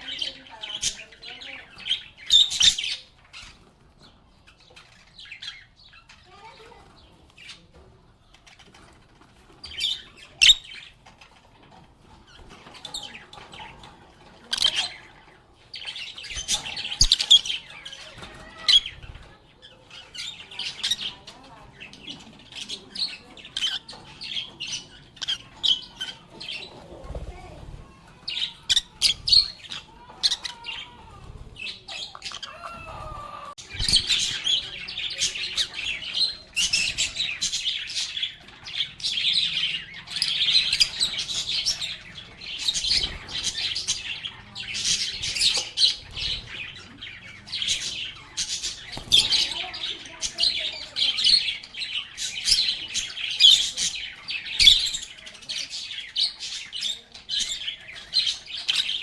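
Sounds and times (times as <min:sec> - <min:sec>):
lovebirds chirping and chattering: 0:00.0 - 0:59.0.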